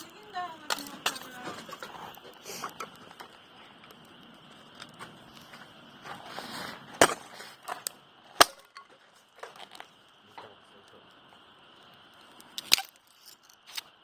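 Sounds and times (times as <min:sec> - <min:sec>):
campfire wood popping: 0:00.0 - 0:14.0.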